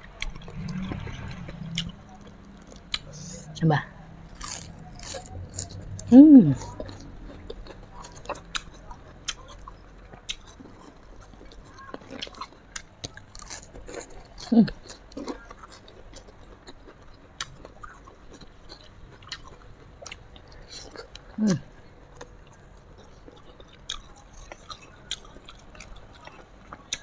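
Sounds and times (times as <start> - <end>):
person chewing food: 0.2 - 3.4, 4.3 - 27.0.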